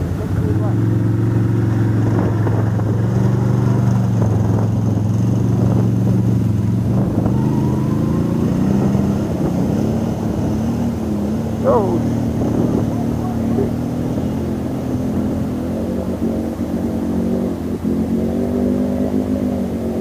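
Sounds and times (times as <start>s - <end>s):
atv driving past: 0.0s - 20.0s.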